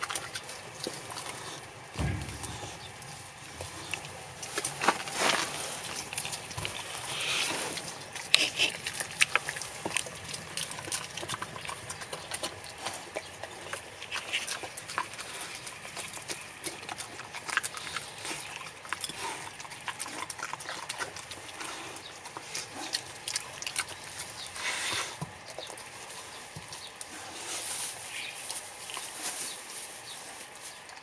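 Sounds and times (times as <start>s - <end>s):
pet chewing wetly: 0.0s - 31.0s.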